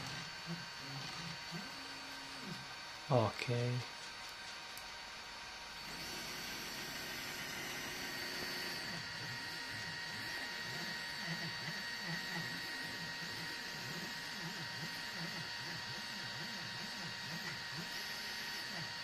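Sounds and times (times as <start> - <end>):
printer motors whining and humming: 0.0 - 19.0.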